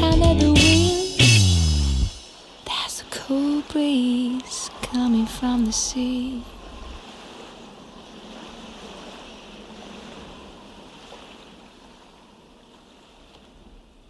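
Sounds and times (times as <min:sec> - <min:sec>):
sea waves: 0:00.0 - 0:14.0
wind: 0:00.7 - 0:14.0.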